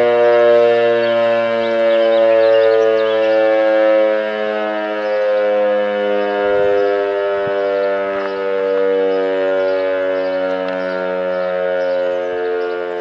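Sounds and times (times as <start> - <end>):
civil defence siren steady tone: 0.0 - 13.0.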